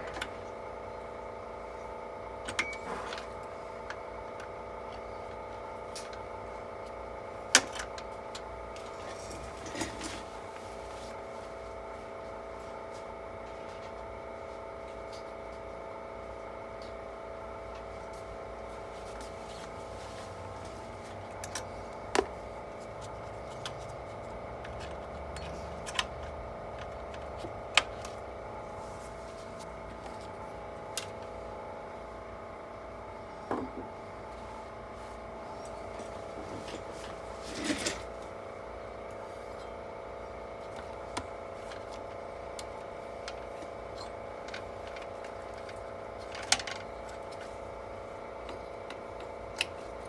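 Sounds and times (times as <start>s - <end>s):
steady hum: 0.0s - 50.0s.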